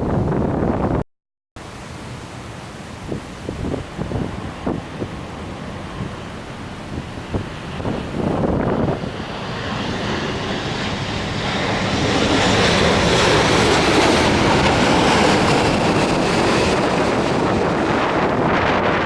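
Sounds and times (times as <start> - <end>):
jet airliner engine roar: 1.6 - 19.0.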